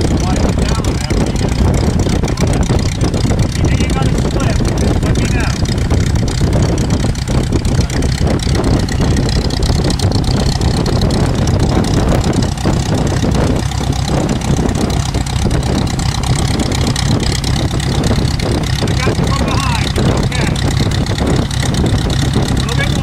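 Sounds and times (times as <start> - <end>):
small plane engine idling: 0.0 - 23.0.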